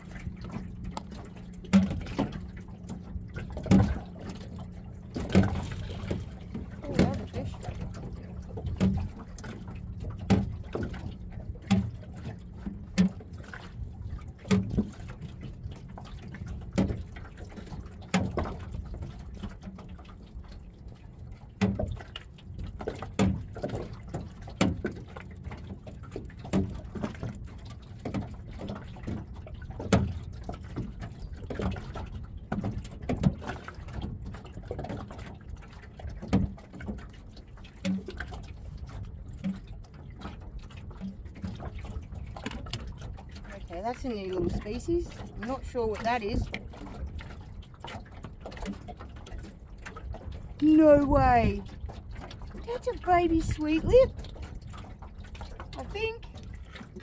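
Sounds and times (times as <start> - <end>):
low steady rumble: 0.0 - 57.0
waves slapping against boat hull: 0.0 - 57.0.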